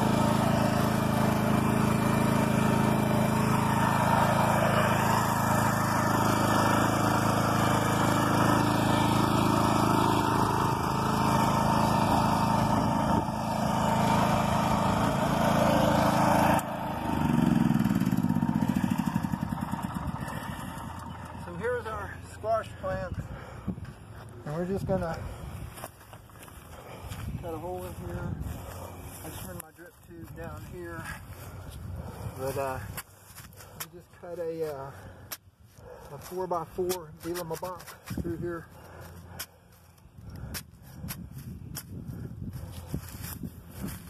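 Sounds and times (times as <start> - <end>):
small tractor engine running: 0.0 - 44.0.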